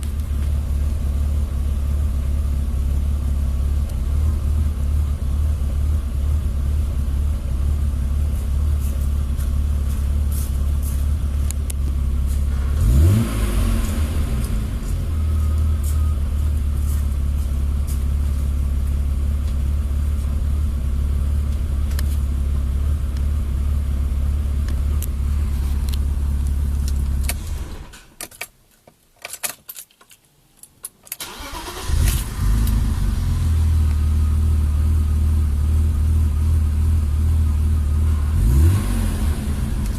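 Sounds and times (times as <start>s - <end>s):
car engine idling: 0.0s - 28.2s, 31.2s - 39.9s.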